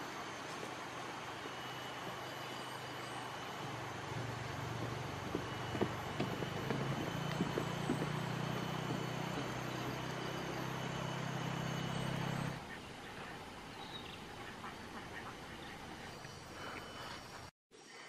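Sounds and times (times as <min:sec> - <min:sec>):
thin high steady tone: 0:00.0 - 0:17.4
motor engine humming: 0:00.0 - 0:17.5.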